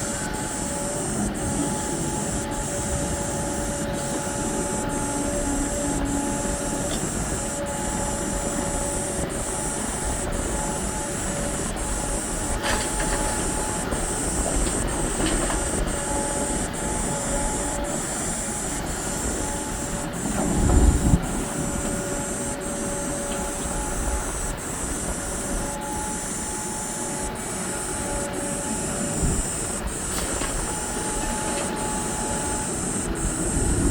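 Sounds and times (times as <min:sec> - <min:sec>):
excavator engine and hydraulics: 0:00.0 - 0:33.9
faint whine: 0:00.0 - 0:33.9.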